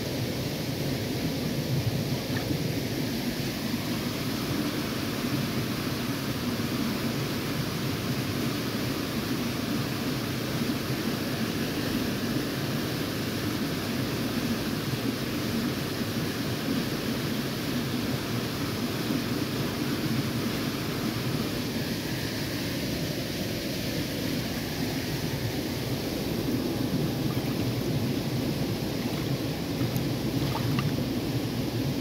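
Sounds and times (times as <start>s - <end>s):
stream running over stones: 1.0s - 23.8s, 24.4s - 32.0s.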